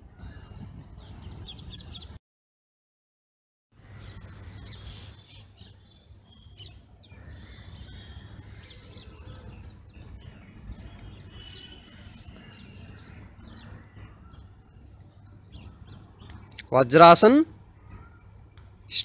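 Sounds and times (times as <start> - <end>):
small birds chirping: 0.0 - 2.2, 3.8 - 19.0.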